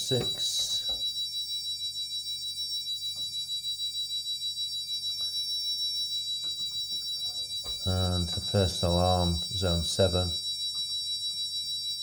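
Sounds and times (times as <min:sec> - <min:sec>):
high-pitched alarm keypad tone: 0:00.0 - 0:12.0.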